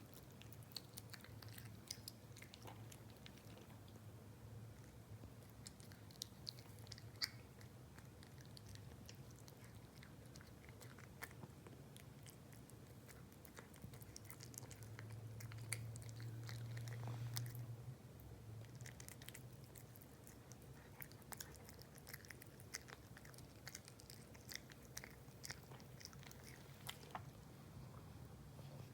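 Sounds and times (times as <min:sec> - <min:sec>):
cat crunching food: 0:00.0 - 0:04.1, 0:04.7 - 0:17.7, 0:18.6 - 0:27.6
low steady hum: 0:00.0 - 0:28.9.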